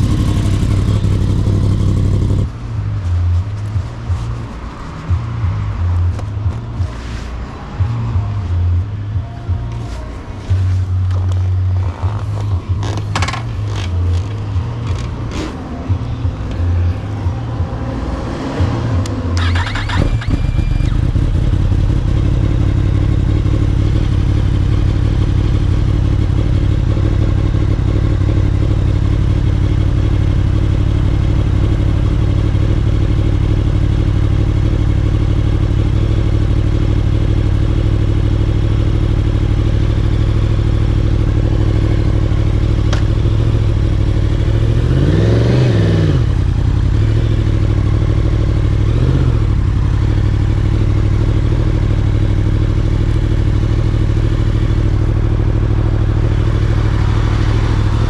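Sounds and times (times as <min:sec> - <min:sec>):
motorcycle engine running: 0:00.0 - 0:06.9, 0:10.9 - 0:17.9, 0:19.4 - 0:58.0.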